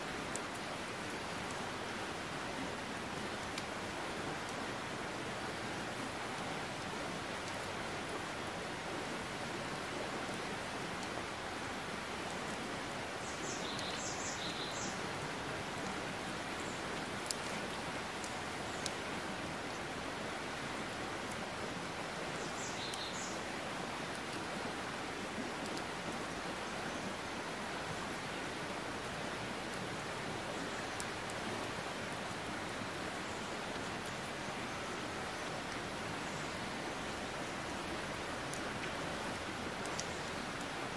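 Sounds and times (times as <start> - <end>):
forest background hiss: 0.0 - 40.9.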